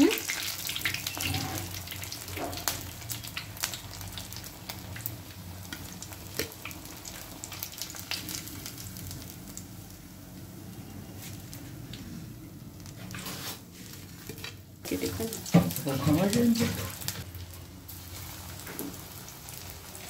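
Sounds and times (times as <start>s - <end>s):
hot oil sizzling and popping: 0.0s - 20.0s.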